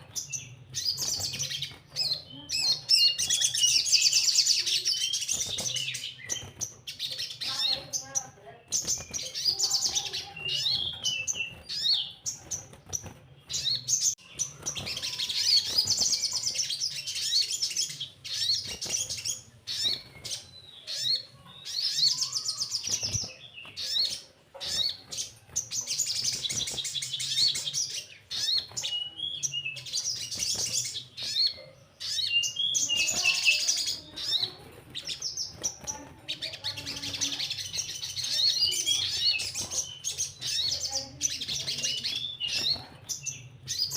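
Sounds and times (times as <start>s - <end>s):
sunbird high chattering trills: 0.0s - 43.9s.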